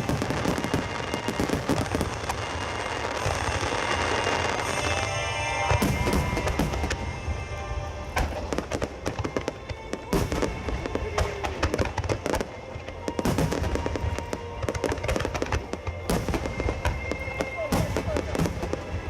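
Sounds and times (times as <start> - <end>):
fireworks bursting and crackling: 0.0 - 19.0
music playing: 0.0 - 19.0.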